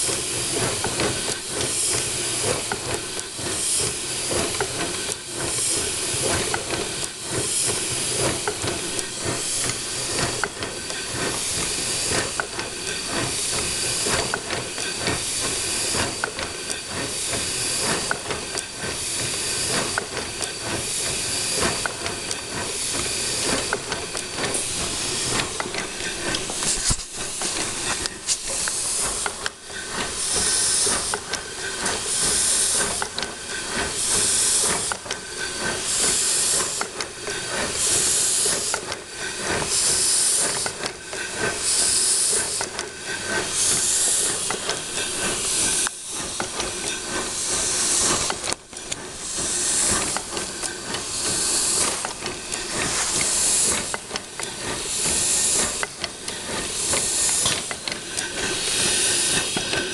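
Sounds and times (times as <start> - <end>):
steam hiss: 0.0 - 59.9
locomotive exhaust puffs: 0.1 - 59.9.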